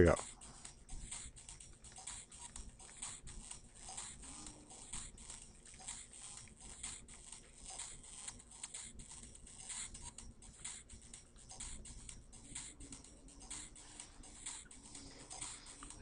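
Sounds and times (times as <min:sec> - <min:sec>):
pointing device clicks and scratches: 0:00.2 - 0:16.0.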